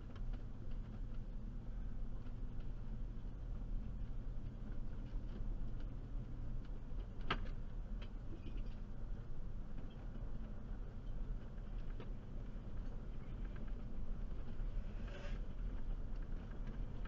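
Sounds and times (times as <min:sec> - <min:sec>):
van engine and tyres rumbling: 0:00.0 - 0:17.0.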